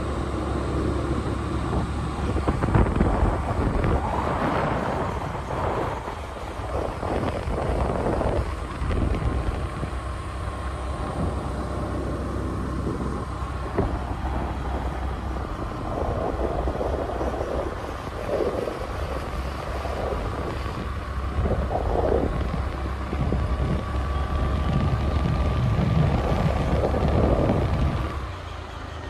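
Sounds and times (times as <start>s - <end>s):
wind buffeting microphone: 0.0s - 28.4s
scooter whine: 0.0s - 29.0s.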